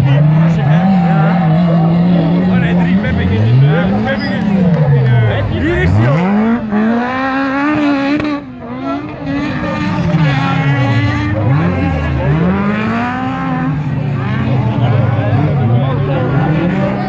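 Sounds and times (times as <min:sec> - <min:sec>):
car engines revving hard: 0:00.0 - 0:17.0.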